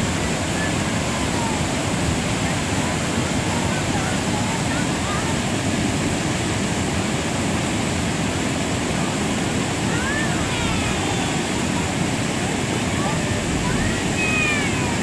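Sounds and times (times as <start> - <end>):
river water rushing over rapids: 0.0 - 15.0.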